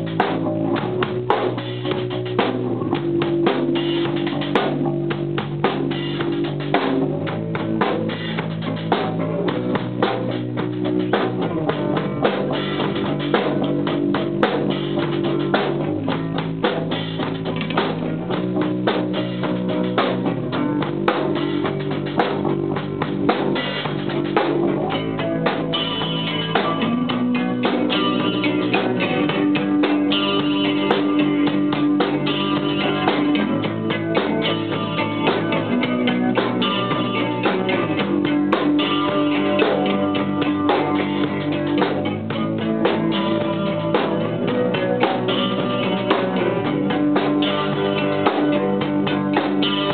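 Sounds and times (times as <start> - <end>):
drum kit beat: 0.0 - 49.9
sustained guitar notes: 0.0 - 49.9.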